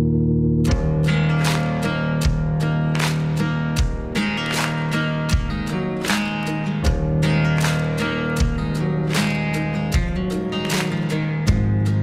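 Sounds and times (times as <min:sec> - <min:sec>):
strummed acoustic guitar: 0:00.6 - 0:12.0.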